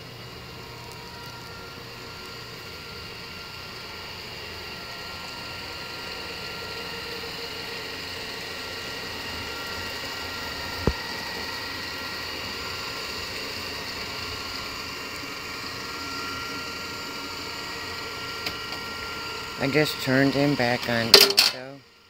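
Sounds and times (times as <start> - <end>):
robot vacuum whirring: 0.1 - 21.2.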